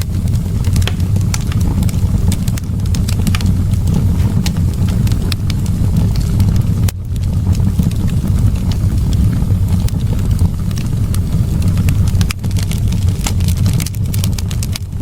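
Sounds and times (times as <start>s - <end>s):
fire crackling and popping: 0.0s - 15.0s
roar of fire flames: 0.0s - 15.0s.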